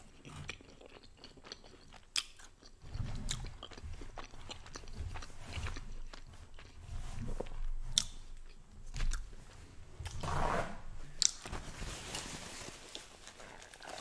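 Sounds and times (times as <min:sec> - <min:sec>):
person chewing food: 0:00.0 - 0:10.2, 0:12.9 - 0:14.0.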